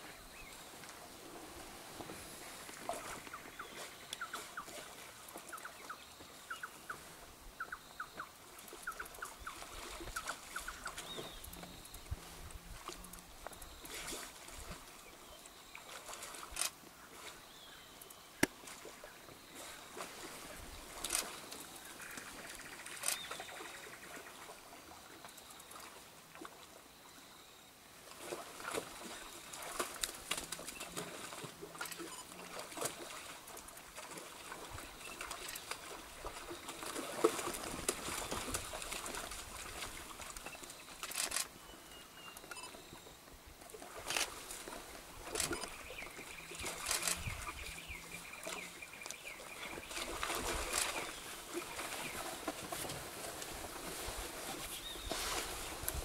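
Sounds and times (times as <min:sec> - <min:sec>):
water splashing and trickling: 0:00.0 - 0:07.3, 0:08.0 - 0:26.8, 0:28.0 - 0:41.6, 0:42.2 - 0:56.0.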